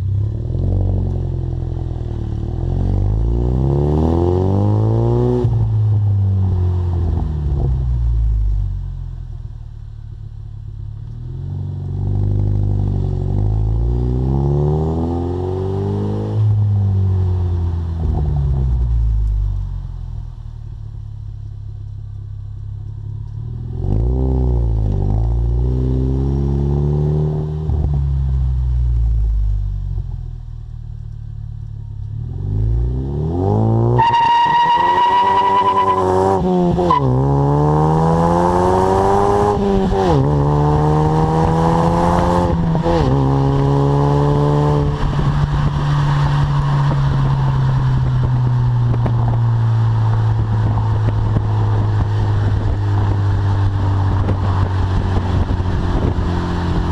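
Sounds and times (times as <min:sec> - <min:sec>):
car engine revving: 0:00.0 - 0:09.2, 0:10.1 - 0:56.9.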